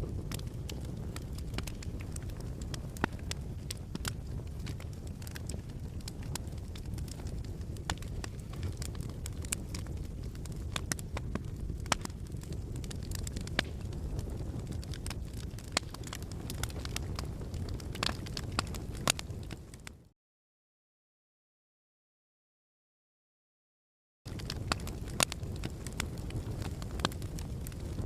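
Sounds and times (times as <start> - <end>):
fireplace fire crackling: 0.0 - 20.1, 24.3 - 28.0.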